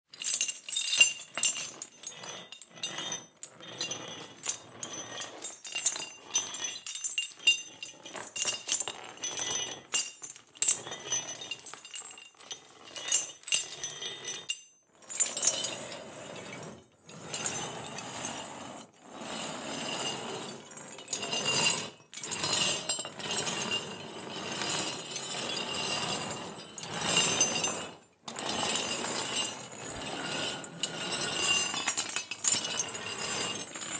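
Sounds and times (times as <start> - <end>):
metal chains clinking and rattling: 0.1 - 33.9.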